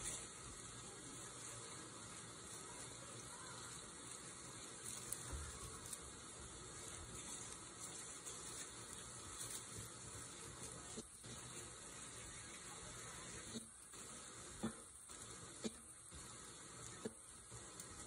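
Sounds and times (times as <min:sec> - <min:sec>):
dry leaves rustling: 0:00.0 - 0:18.0
steady hiss: 0:00.0 - 0:18.0.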